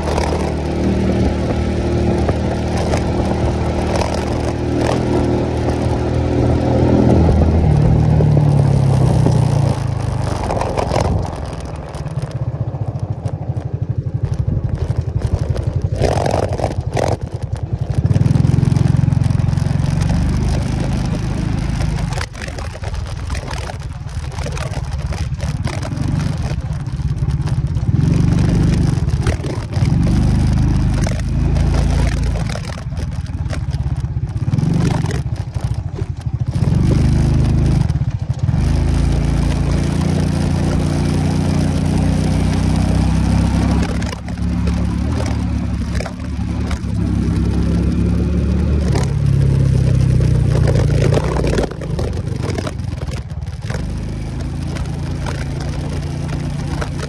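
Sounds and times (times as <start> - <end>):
motorcycle engine revving: 0.0 - 57.0
stones knocking under wheels: 0.0 - 57.0.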